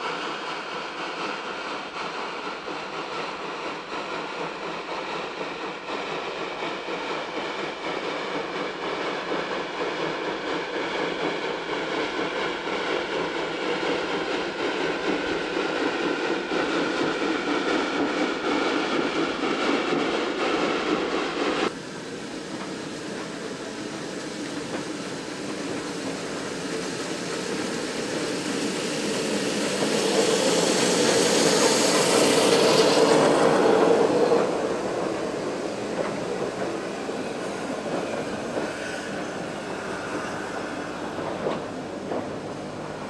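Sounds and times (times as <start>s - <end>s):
rush of steam: 0.0s - 43.0s
steam locomotive climbing: 0.0s - 43.0s.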